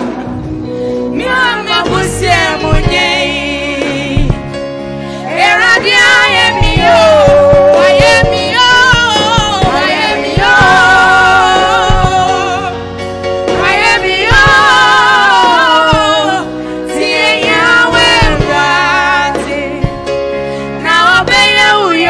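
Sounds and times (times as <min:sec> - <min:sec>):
woman singing gospel song: 0:00.0 - 0:22.0
instrumental backing with beat: 0:00.4 - 0:21.7.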